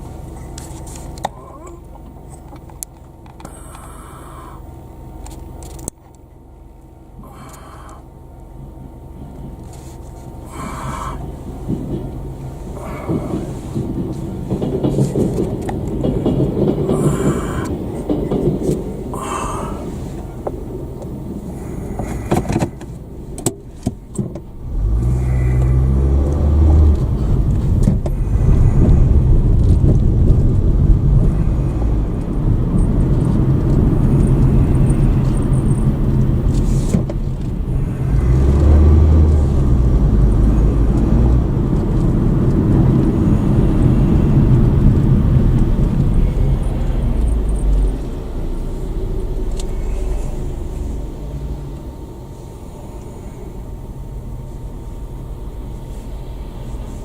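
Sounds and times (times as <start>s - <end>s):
car engine accelerating: 0.0s - 57.0s
road noise inside car: 0.0s - 57.0s.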